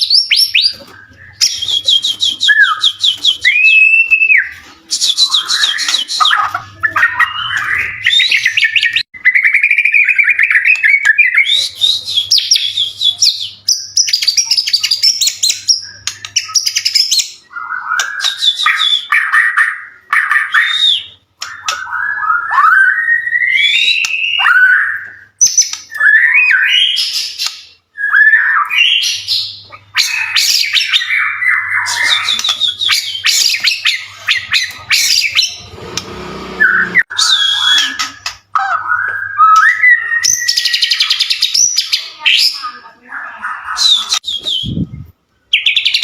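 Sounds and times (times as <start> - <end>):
songbird singing trills and whistles: 0.0 - 35.8, 36.6 - 42.9, 43.5 - 46.0.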